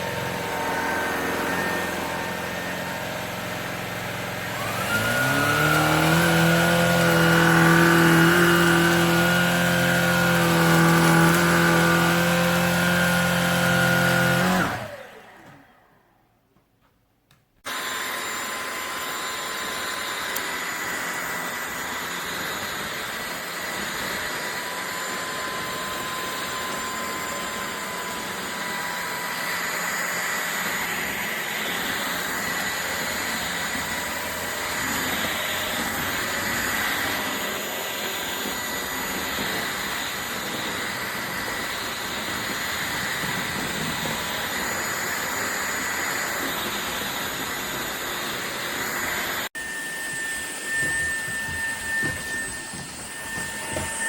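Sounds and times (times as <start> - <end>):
stick vacuum running: 0.0 - 16.3, 17.7 - 54.0.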